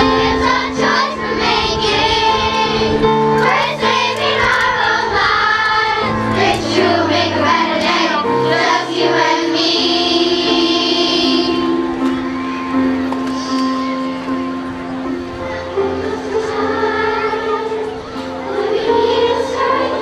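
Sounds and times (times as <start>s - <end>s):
children's choir singing: 0.0s - 20.0s
keyboard accompaniment: 0.0s - 20.0s.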